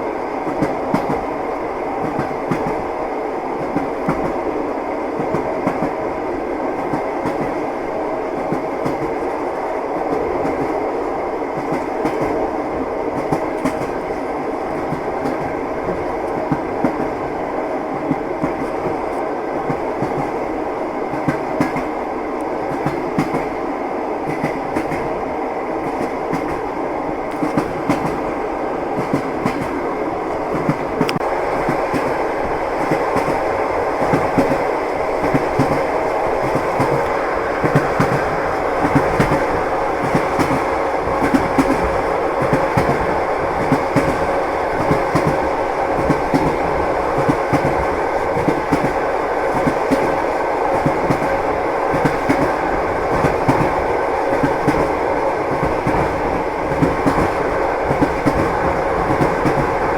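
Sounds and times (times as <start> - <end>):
railway carriage running noise: 0.0 - 59.9
train wheels clattering on rails: 0.0 - 59.9.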